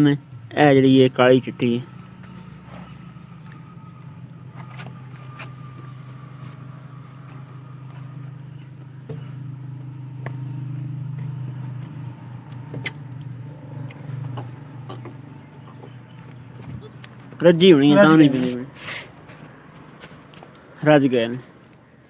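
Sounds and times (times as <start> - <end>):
low motor hum: 0.0 - 20.8.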